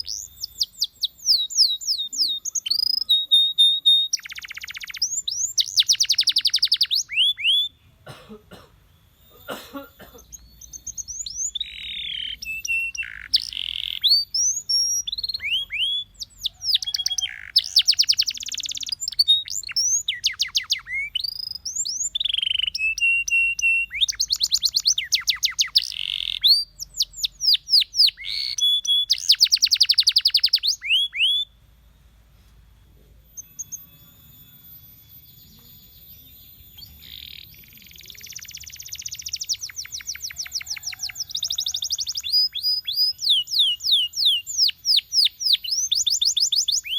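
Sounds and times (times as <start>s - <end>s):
canary singing: 0.0s - 8.1s, 8.8s - 32.1s, 33.1s - 46.9s.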